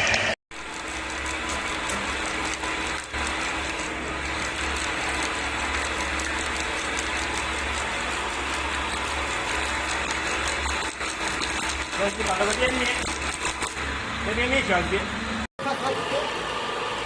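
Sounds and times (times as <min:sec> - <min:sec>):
cable stripping machine whirring: 0:00.0 - 0:17.0.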